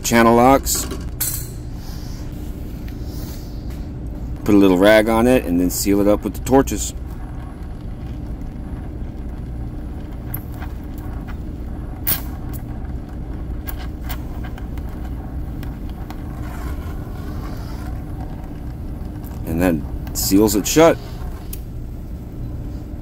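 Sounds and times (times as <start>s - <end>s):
torch flame roaring: 0.0s - 23.0s.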